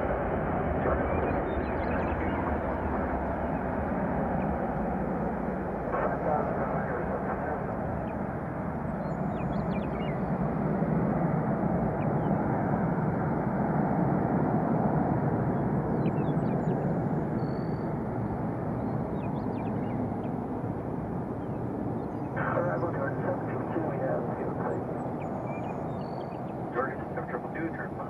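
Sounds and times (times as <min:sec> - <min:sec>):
jet engine rumble: 0:00.0 - 0:28.0.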